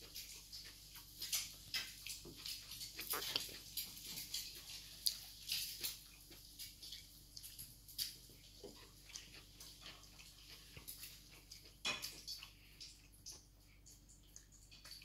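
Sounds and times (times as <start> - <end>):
child chewing: 0.0 - 15.0.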